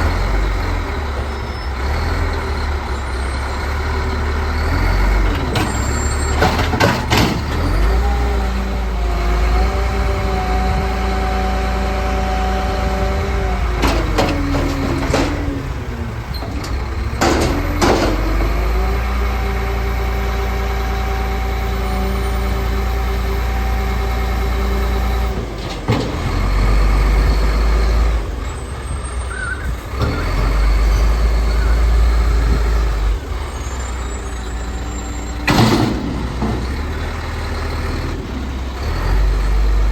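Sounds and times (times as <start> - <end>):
garbage truck diesel engine whining: 0.0 - 39.9.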